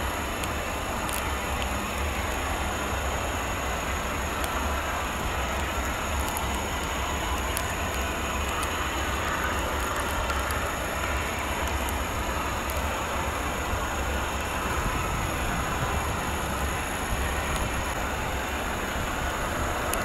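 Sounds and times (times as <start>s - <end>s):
high whine: 0.0s - 20.0s
jet aircraft drone: 0.0s - 20.0s.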